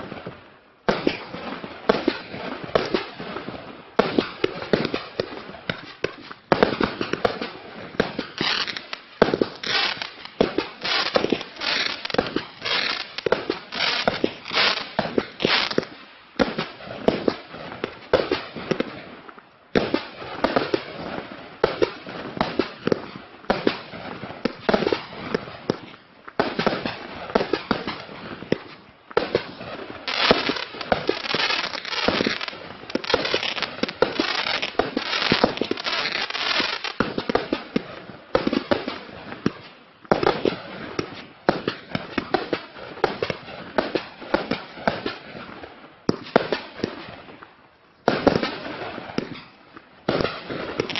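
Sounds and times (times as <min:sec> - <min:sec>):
dense fireworks crackling: 0:00.0 - 0:50.9
fireworks launching and bursting: 0:00.0 - 0:50.9.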